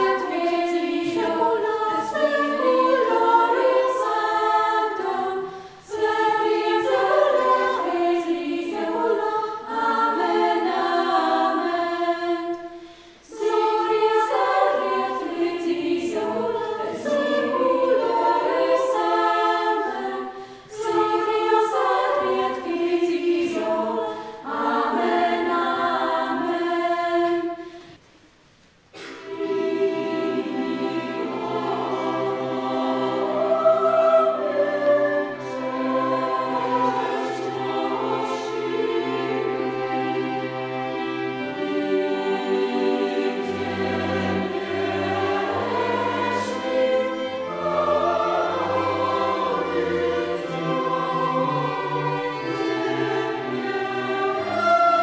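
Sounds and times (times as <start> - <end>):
choir singing: 0.0 - 28.0, 28.9 - 55.0.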